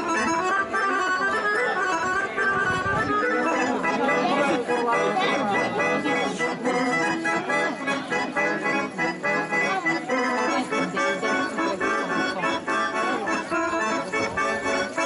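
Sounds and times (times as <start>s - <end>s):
accordion dance music: 0.0s - 15.0s.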